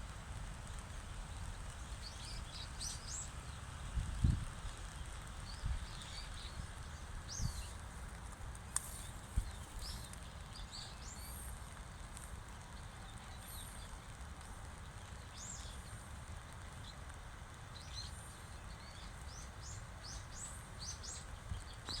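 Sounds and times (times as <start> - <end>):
low outdoor rumble: 0.0 - 22.0
small birds chirping: 0.8 - 22.0.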